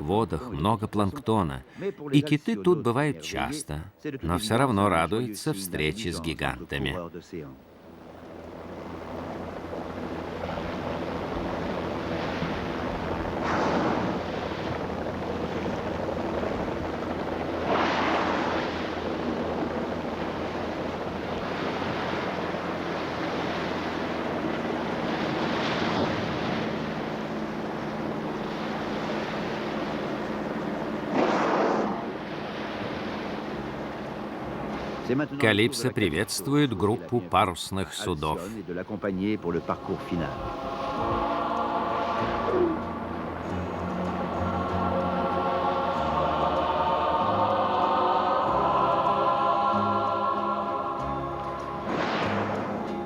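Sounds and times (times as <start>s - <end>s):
sea waves washing: 0.0s - 53.0s
steady low hum: 0.0s - 53.0s
wind: 0.0s - 53.0s.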